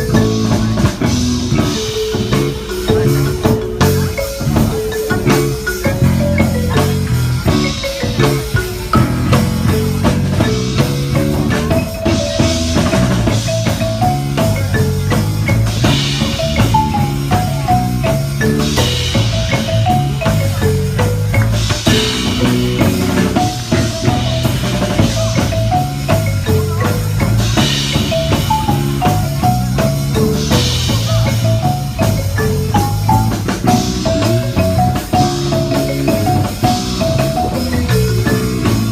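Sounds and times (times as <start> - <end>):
electric bass line: 0.0 - 38.9
marimba melody: 0.0 - 38.9
percussion splashes: 0.0 - 38.9.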